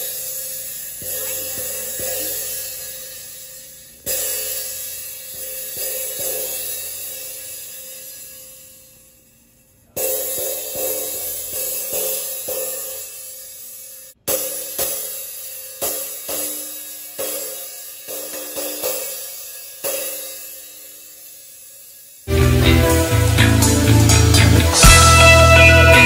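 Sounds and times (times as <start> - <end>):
rivet cymbal struck with sizzle: 0.0 - 26.0.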